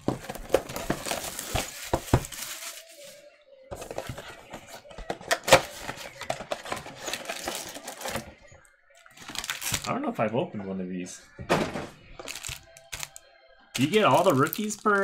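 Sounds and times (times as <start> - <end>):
cardboard and foil packs rustling: 0.0 - 8.4, 9.0 - 10.0, 11.7 - 13.2, 13.8 - 15.0.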